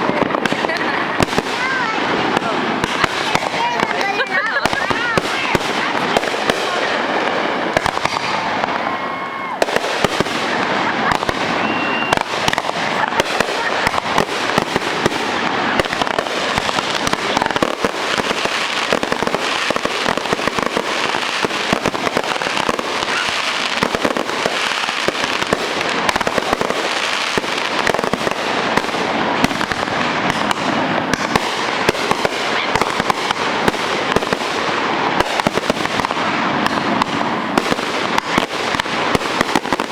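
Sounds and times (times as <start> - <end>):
fireworks crackling and banging: 0.0 - 39.9
fireworks whistling: 0.0 - 39.9.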